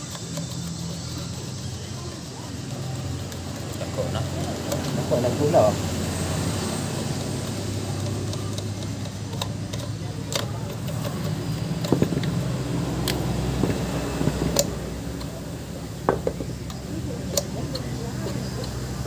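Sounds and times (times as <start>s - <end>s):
low mechanical hum: 0.0s - 19.0s
sharp metallic clicks and taps: 0.0s - 19.0s.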